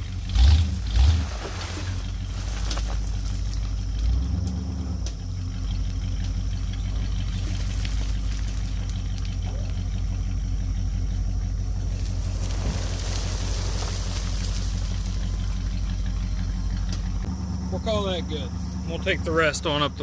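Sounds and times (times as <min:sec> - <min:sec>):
engine droning: 0:00.0 - 0:20.0.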